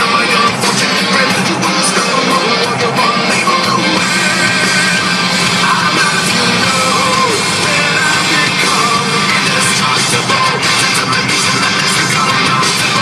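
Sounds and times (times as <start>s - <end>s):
person singing: 0.0s - 13.0s
rock guitar: 0.0s - 13.0s.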